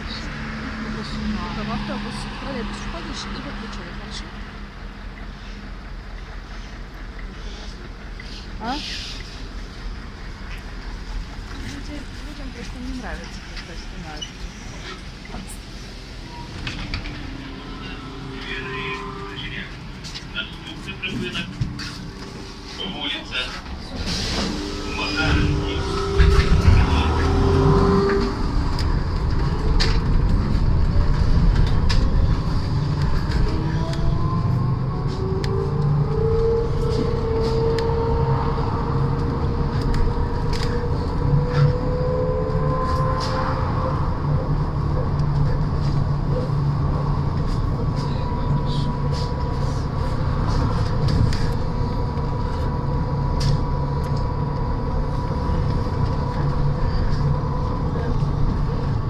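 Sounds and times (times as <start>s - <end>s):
road rumble: 0.0s - 59.0s.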